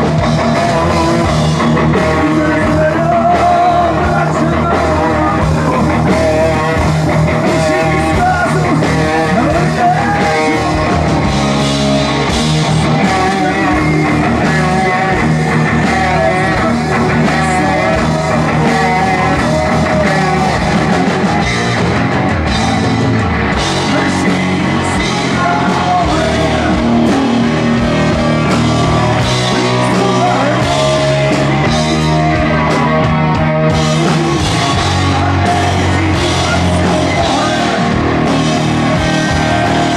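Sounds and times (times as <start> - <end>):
person singing: 0.0 - 22.0, 23.5 - 39.9
bass guitar: 0.0 - 39.9
drum kit: 0.0 - 39.9
electric guitars: 0.0 - 39.9.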